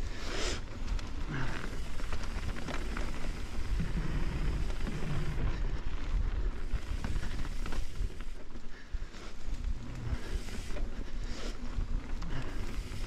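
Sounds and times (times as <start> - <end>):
tyres rolling on dirt: 0.0 - 13.0.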